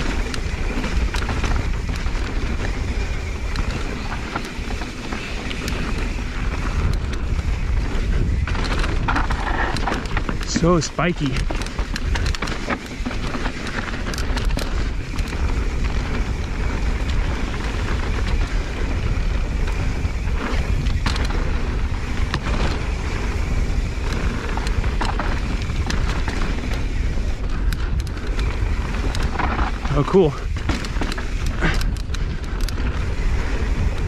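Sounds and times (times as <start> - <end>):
bike clicks and rattles: 0.0 - 34.0
tyres rolling on dirt: 0.0 - 34.0
wind rumble on microphone: 0.0 - 34.0.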